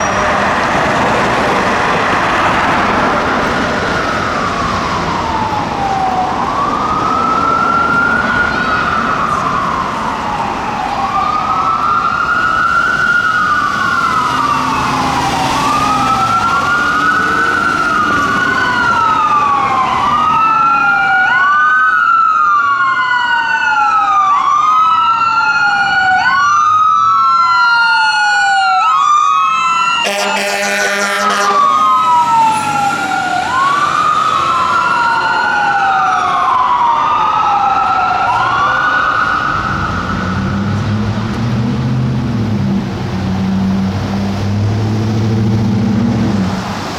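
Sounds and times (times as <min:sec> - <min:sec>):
fire engine siren wailing: 0:00.0 - 0:46.9.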